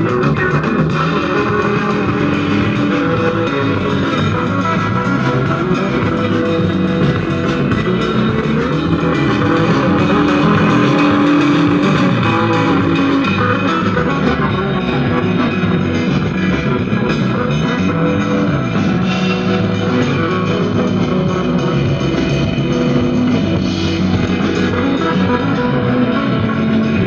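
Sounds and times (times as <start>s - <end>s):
song with guitar and drums: 0.0s - 27.0s.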